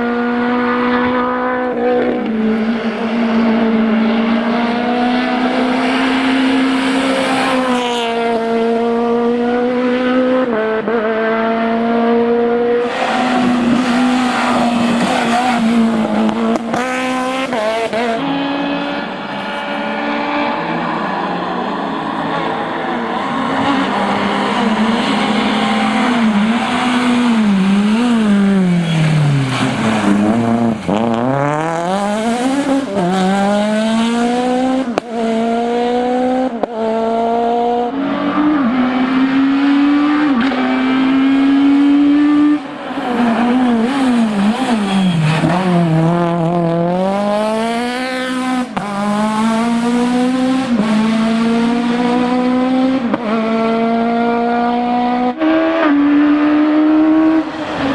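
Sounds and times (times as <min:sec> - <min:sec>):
rally car engine revving hard: 0:00.0 - 0:57.9.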